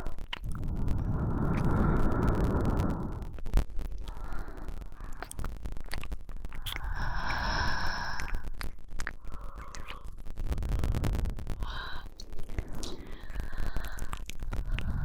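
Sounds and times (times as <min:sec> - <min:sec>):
woman breathing slowly: 0:00.0 - 0:05.6, 0:06.5 - 0:15.0.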